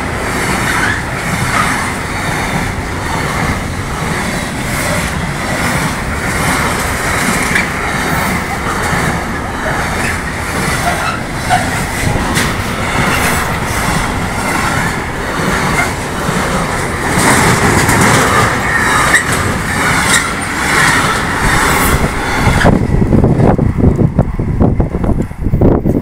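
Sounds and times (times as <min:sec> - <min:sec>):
train wheels clacking on rail joints: 0:00.0 - 0:24.3
freight train rumbling past: 0:00.0 - 0:26.0.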